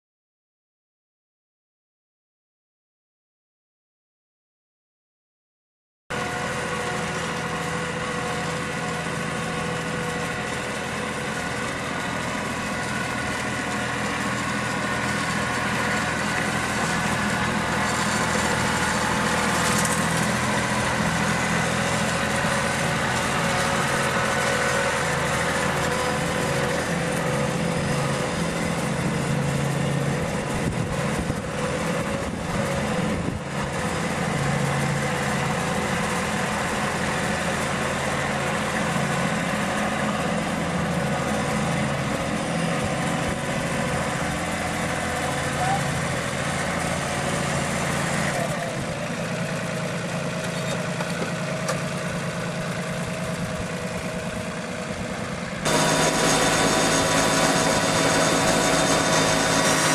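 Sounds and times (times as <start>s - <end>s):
tractor engine running: 6.2s - 59.9s.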